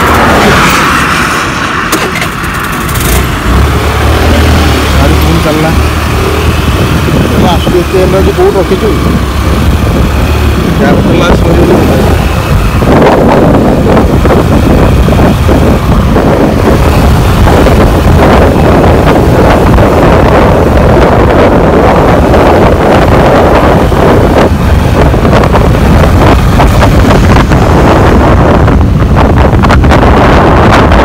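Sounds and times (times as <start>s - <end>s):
scooter engine and road noise: 0.0s - 31.0s
wind buffeting microphone: 0.0s - 31.0s.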